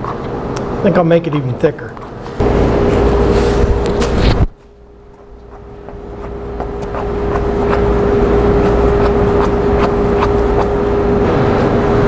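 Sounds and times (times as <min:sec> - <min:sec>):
machine hum with low rumble: 0:00.0 - 0:12.0.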